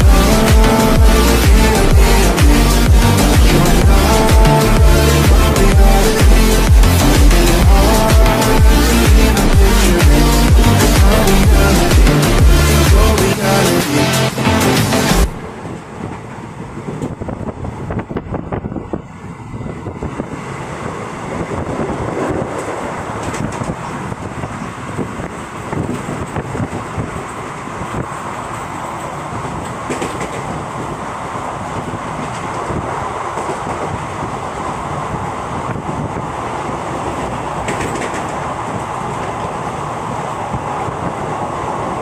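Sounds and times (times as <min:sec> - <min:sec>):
train wheels rumbling and rattling: 0:00.0 - 0:42.0.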